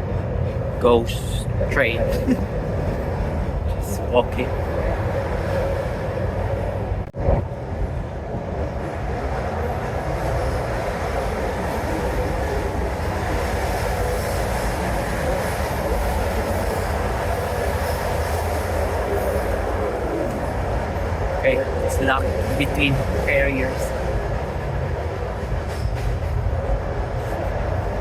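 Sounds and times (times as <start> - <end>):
train carriage rumble and rattle: 0.0 - 28.0.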